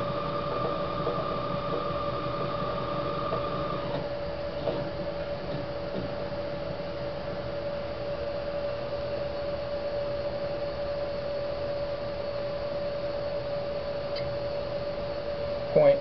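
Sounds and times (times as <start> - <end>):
equipment hum: 0.0 - 16.0.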